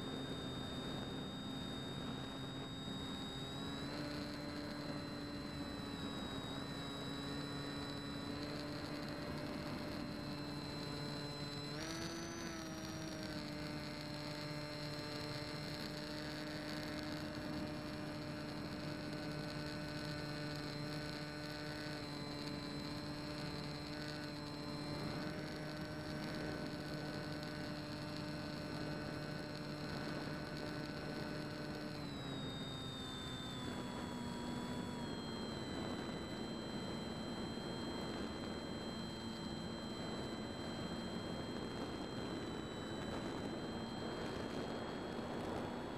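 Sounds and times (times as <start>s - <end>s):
electric motor whine: 0.0s - 45.9s.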